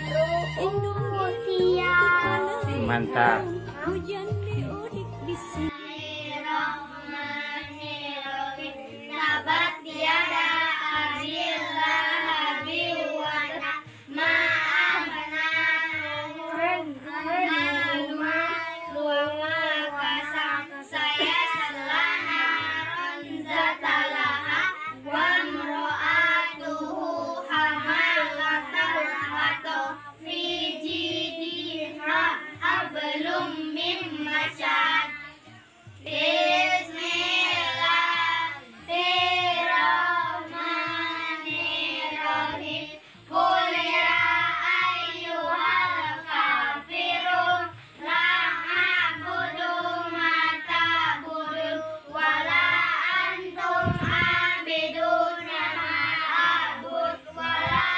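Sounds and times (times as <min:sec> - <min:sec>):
children chanting: 0:05.6 - 0:57.9.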